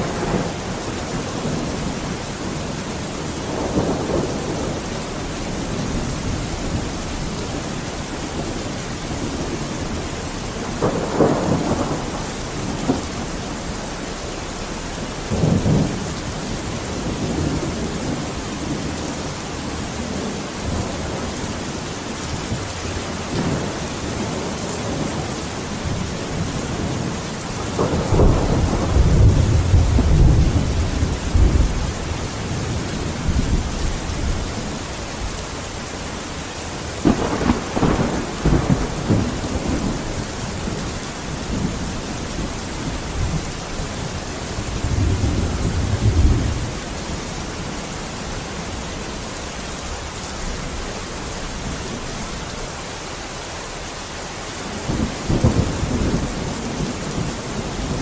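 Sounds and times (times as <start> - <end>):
rolling thunder: 0.0 - 19.3, 22.3 - 48.8, 54.6 - 58.0
steady rain: 0.0 - 58.0.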